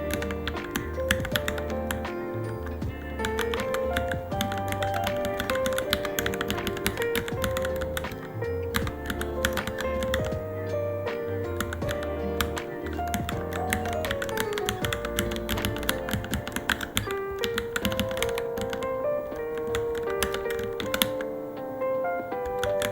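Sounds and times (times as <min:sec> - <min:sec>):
mechanical keyboard typing: 0:00.0 - 0:10.4, 0:11.5 - 0:21.3, 0:22.4 - 0:22.9
background music: 0:00.0 - 0:22.9.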